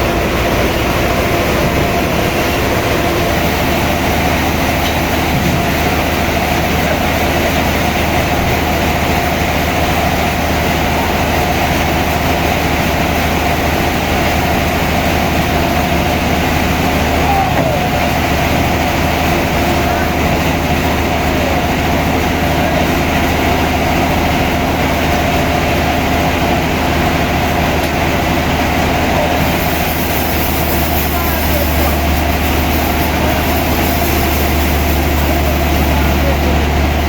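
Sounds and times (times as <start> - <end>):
sawmill machinery droning: 0.0 - 37.0.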